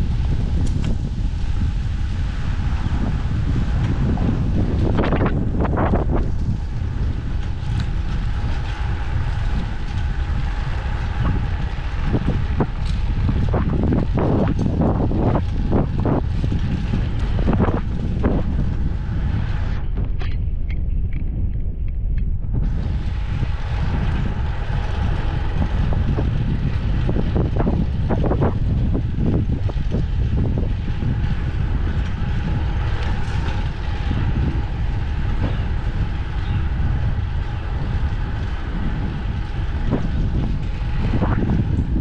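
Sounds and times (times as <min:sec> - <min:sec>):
faint whine: 0:00.0 - 0:42.0
wind rushing over microphone: 0:00.0 - 0:42.0.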